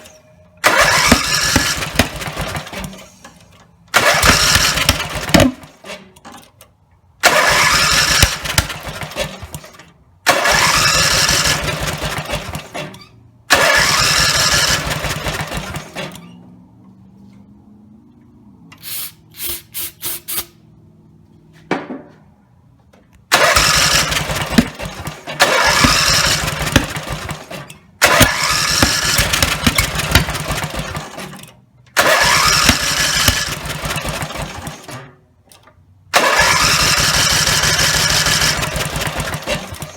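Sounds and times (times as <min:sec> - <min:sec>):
mower engine cranking: 0:00.0 - 0:06.6, 0:07.2 - 0:16.3, 0:23.3 - 0:39.9.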